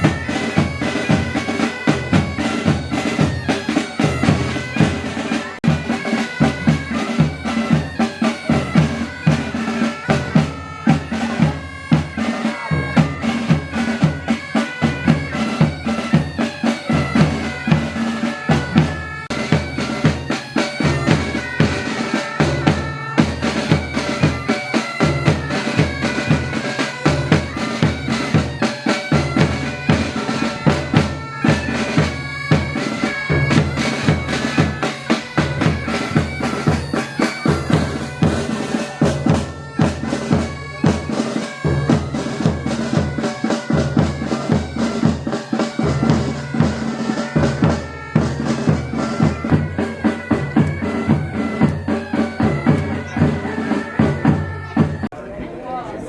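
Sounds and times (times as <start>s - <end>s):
bagpipes playing a melody: 0.0s - 55.1s
drums beating a march rhythm: 0.0s - 55.2s.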